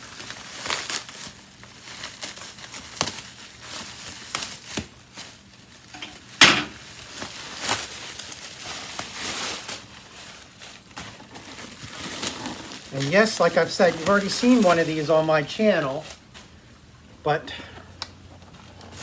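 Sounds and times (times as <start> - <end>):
plastic packaging crinkling: 0.0 - 16.9, 18.2 - 19.0.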